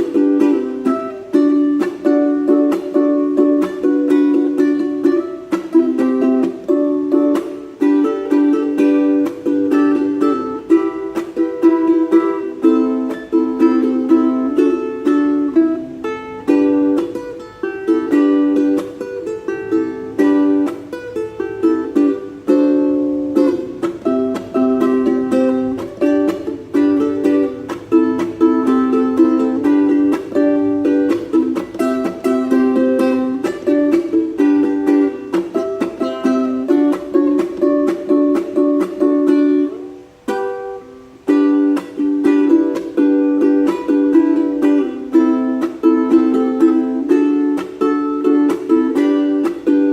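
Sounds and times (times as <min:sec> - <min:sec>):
ukulele tune: 0:00.0 - 0:49.9.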